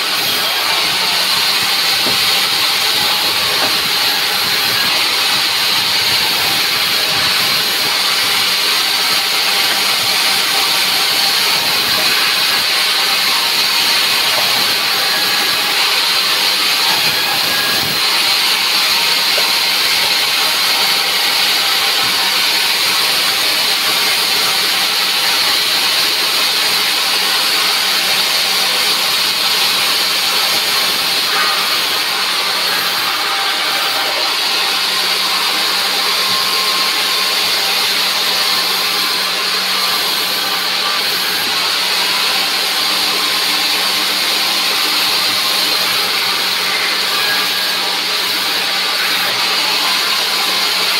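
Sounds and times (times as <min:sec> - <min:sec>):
band saw cutting timber: 0:00.0 - 0:50.9.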